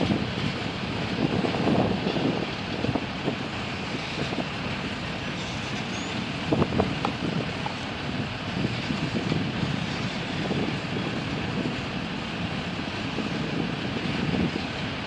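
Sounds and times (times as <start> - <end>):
train knocks: 0.0 - 15.0
train wheels rumbling on rail: 0.0 - 15.0.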